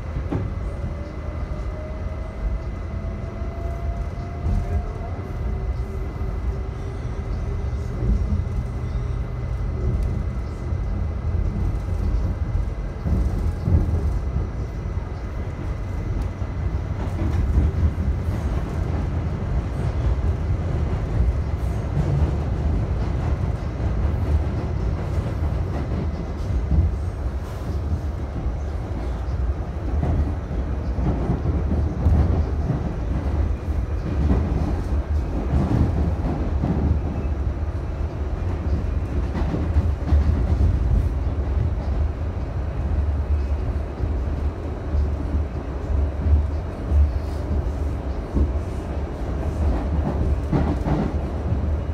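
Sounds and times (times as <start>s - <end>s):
subway car rumbling: 0.0s - 51.9s.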